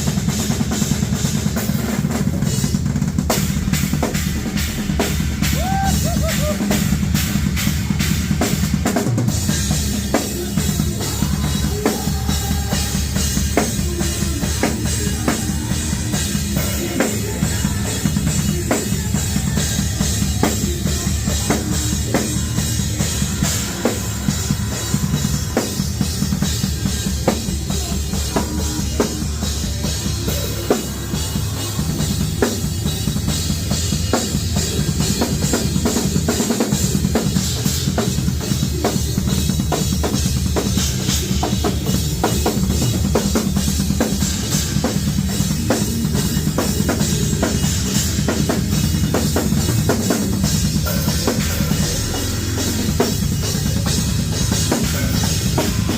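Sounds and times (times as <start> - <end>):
drum kit playing: 0.0 - 55.9.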